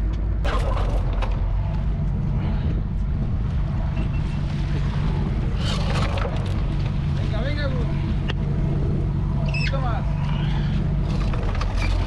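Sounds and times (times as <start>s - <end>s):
boat engines droning: 0.0s - 12.0s
wind: 0.0s - 12.0s.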